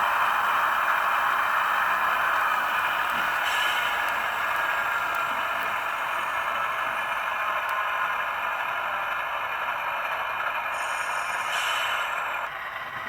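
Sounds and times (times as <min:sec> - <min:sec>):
model locomotive idling sound: 0:00.0 - 0:13.0.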